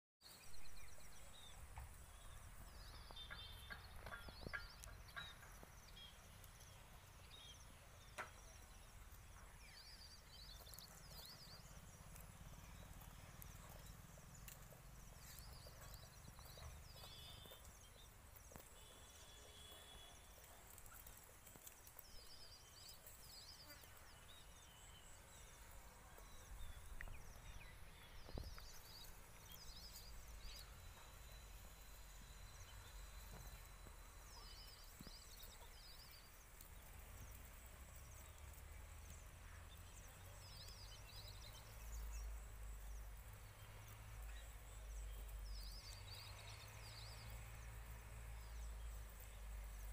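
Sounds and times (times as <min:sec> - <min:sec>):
small bird chirping: 0:00.2 - 0:49.9.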